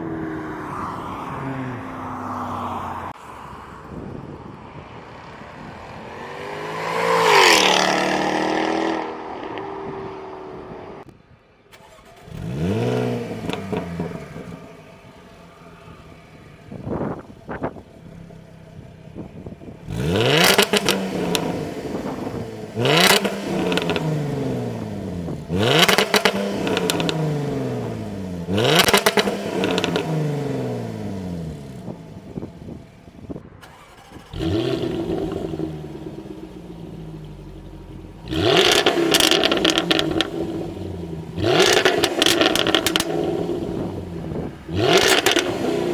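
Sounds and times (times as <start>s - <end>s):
car engine revving: 5.6s - 11.1s, 11.7s - 45.9s.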